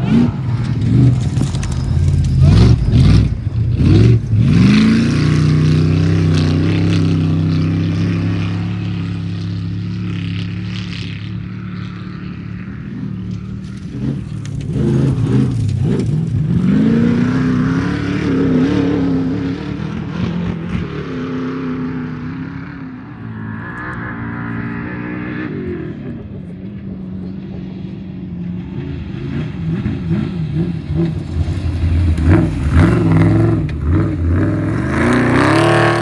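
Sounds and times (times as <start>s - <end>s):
truck engine accelerating: 0.0s - 36.0s.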